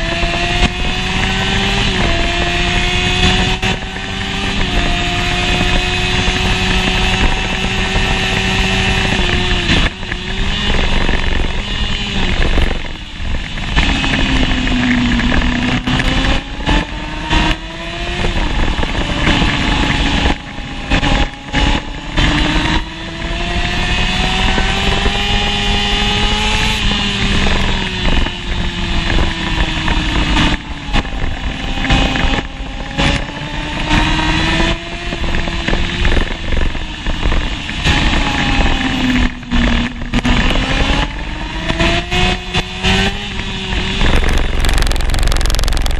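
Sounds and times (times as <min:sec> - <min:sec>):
motorcycle engine at racing revs: 0:00.0 - 0:45.9.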